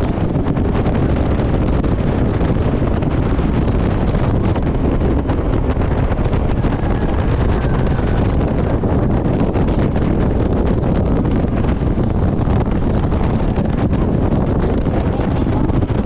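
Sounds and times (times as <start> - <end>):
boat engine: 0.0 - 16.0
wind buffeting microphone: 0.0 - 16.0.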